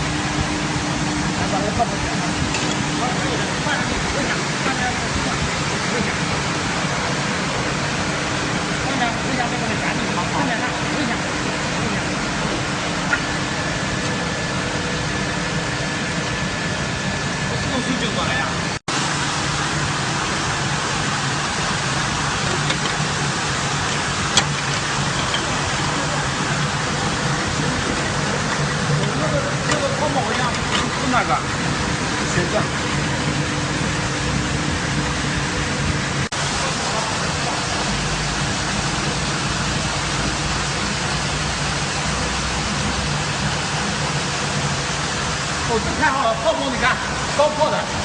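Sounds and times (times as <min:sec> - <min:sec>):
carpet washing machine running: 0:00.0 - 0:48.0.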